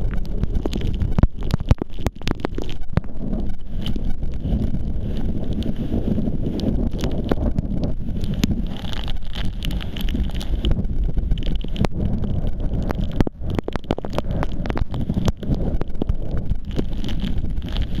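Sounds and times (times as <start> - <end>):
sharp clicks and crackles: 0.0 - 18.0
wind buffeting microphone: 0.0 - 18.0.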